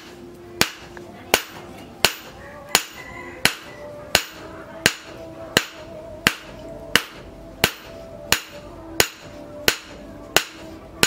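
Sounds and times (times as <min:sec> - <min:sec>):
hammer striking steel on anvil: 0:00.0 - 0:10.8.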